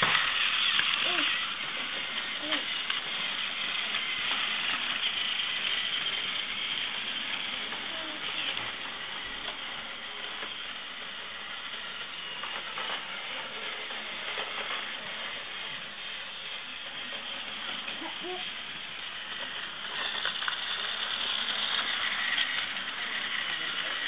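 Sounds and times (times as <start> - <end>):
toy train motors whirring: 0.0 - 24.0.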